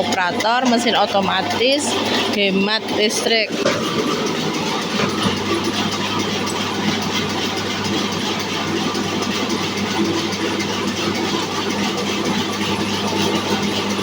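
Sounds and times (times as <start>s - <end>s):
band sawmill running: 0.0s - 14.0s.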